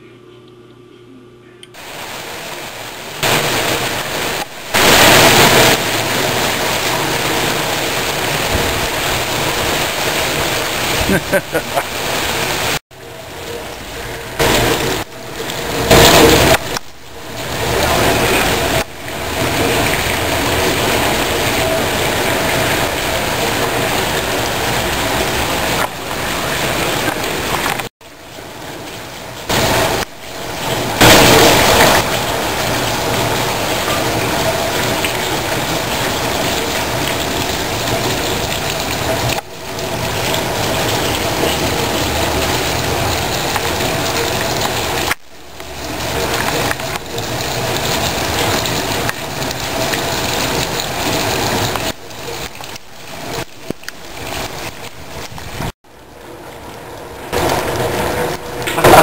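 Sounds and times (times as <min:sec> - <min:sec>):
rushing outdoor noise: 0:01.8 - 0:59.0.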